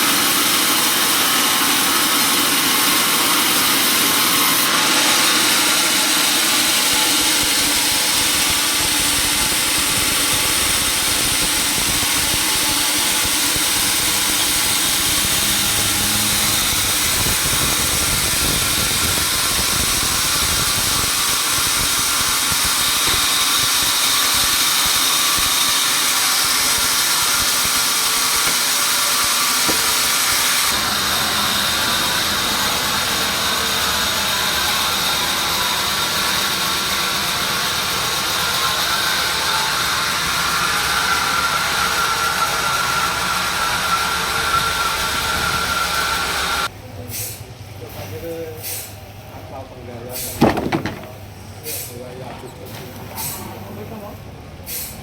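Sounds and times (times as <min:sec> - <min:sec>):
sawmill saw whining: 0:00.0 - 0:46.7, 0:49.5 - 0:54.9.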